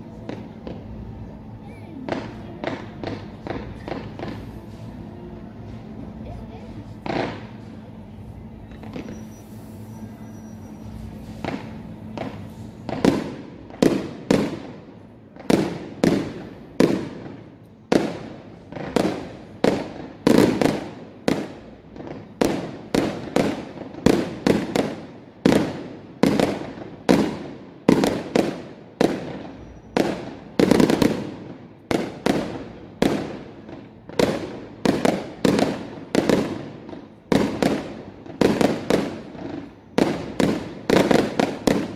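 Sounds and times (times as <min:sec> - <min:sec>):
fireworks bangs echoing: 0:00.0 - 0:08.0, 0:08.6 - 0:41.9.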